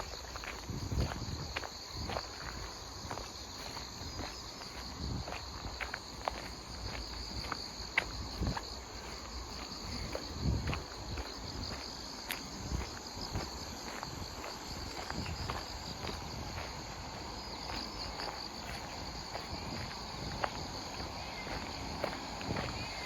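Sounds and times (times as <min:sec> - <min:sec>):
footsteps on a path: 0:00.0 - 0:23.0
insects chirping: 0:00.0 - 0:23.0.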